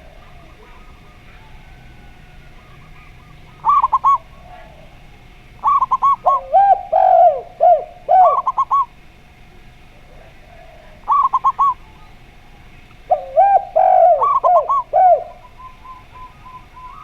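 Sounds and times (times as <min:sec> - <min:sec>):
zebra dove cooing: 0:00.0 - 0:09.0, 0:09.6 - 0:17.0
spotted dove cooing: 0:00.0 - 0:17.0.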